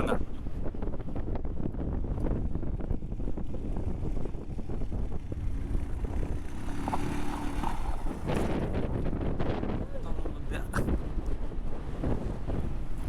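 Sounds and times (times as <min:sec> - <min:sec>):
motorcycle on rough ground: 0:00.0 - 0:13.0
steady low rumble: 0:00.0 - 0:13.0
wind buffeting microphone: 0:00.0 - 0:13.0.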